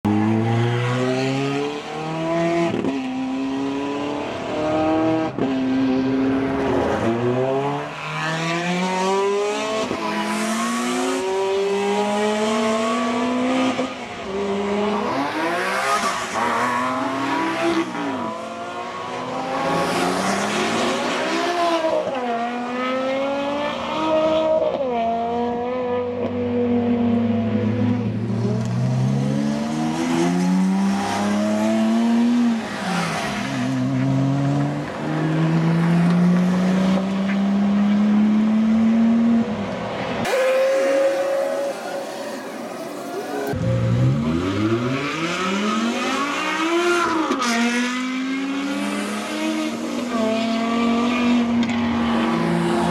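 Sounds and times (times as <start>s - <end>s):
sports car engines accelerating: 0.1s - 52.9s.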